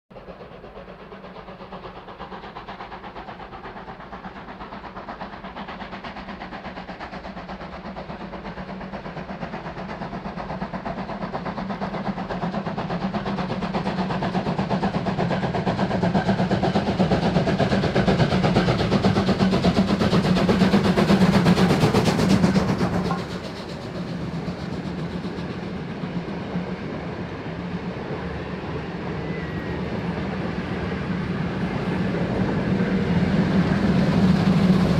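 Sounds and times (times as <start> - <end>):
steam locomotive exhaust beats: 0.1 - 34.9.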